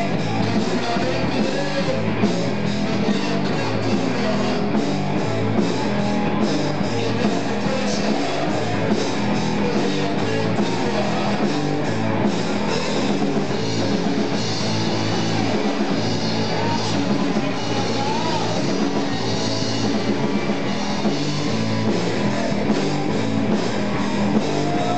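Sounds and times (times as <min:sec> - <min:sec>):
rock band playing: 0:00.0 - 0:24.9.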